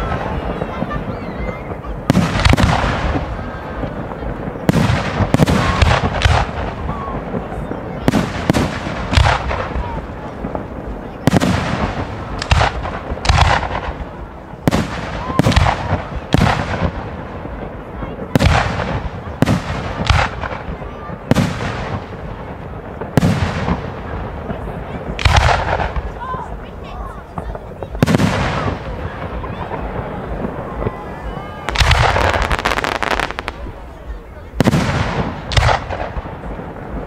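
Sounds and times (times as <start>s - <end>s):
fireworks bangs echoing: 0.0s - 37.0s.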